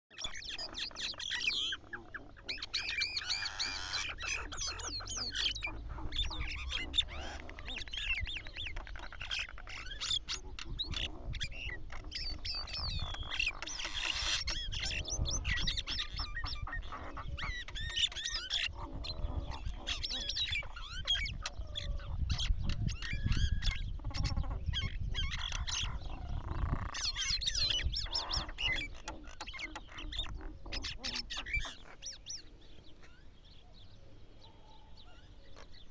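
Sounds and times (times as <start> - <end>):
birds whistling and squawking: 0.1 - 35.9.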